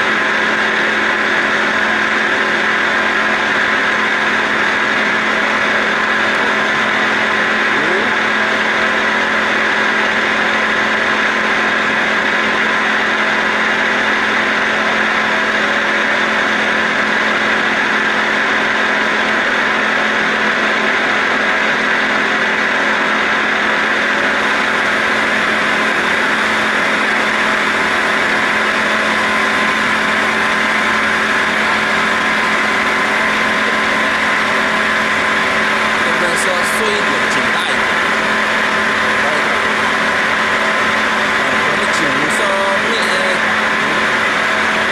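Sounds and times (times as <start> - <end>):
lathe machine hum and hiss: 0.0 - 44.9.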